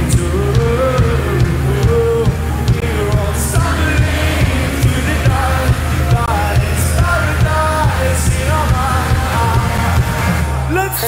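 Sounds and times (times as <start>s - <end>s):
steady drum beat: 0.0s - 10.9s
pop-rock band playing: 0.0s - 11.0s.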